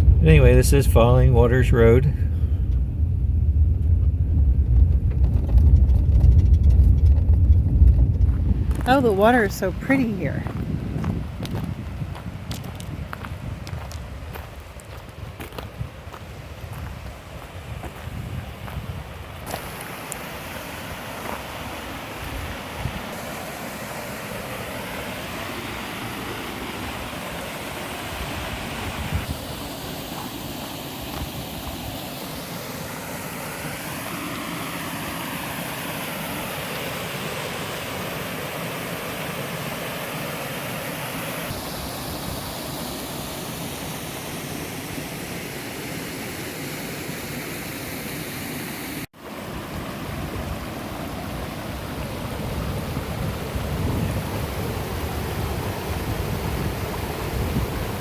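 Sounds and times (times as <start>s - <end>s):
creek and waterfall rushing: 8.9s - 10.5s, 12.2s - 58.0s.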